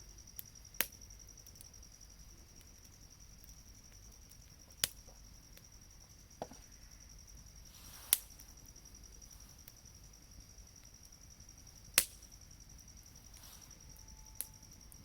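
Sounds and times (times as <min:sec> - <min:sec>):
high-pitched insect trill: 0:00.0 - 0:15.0
campfire wood popping: 0:00.3 - 0:01.8, 0:02.4 - 0:15.0.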